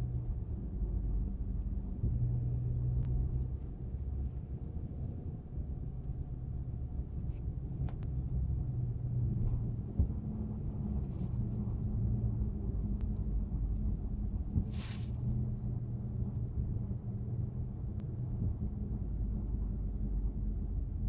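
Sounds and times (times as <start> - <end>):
car rumble with rotating howl: 0.0 - 21.0.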